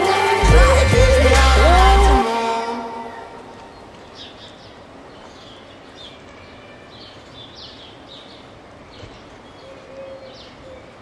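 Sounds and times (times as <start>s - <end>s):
birds chirping: 0.0s - 11.0s
steady background hiss: 1.2s - 11.0s.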